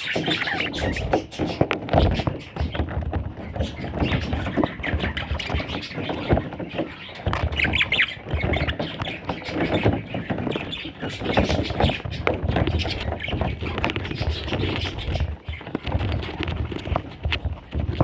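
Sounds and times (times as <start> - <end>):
budgerigar chicks squawking: 0.0 - 18.0
rustling and bumping: 0.0 - 18.0.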